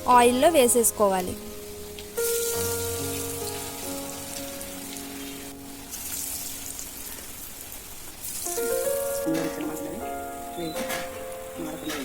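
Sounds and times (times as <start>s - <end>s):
food sizzling in hot oil: 0.0s - 11.9s
soft background music: 0.0s - 12.0s.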